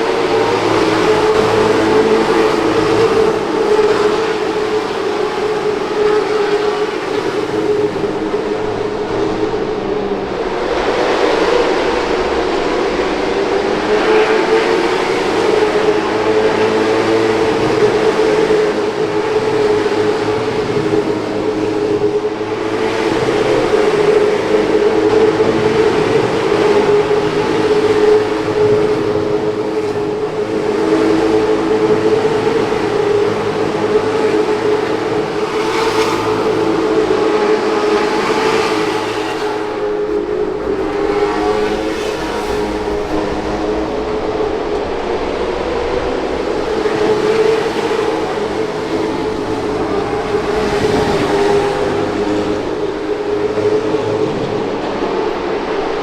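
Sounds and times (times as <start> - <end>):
race car engines at high revs: 0.0 - 56.0.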